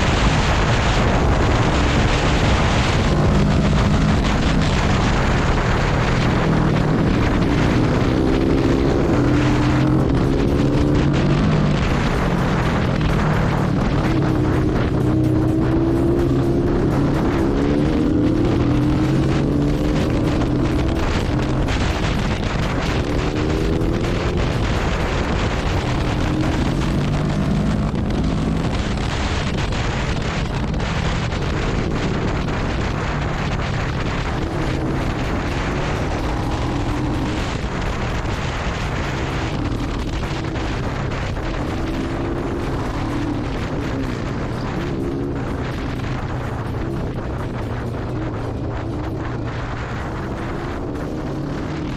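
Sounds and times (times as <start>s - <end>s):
motorcycle engine accelerating: 0.0s - 51.9s
wind rushing over microphone: 0.0s - 51.9s.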